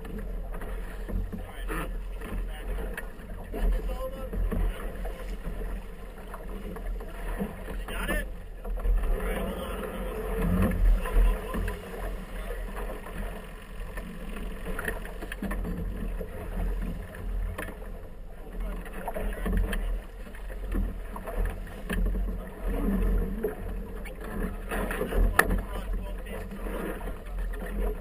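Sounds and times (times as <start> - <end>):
boat engine rumble: 0.0 - 28.0
water splashing against boat hull: 0.0 - 28.0.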